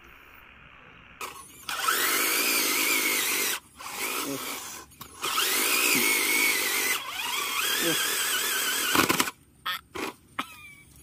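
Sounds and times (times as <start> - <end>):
toy truck electric motor whining: 1.2 - 10.2.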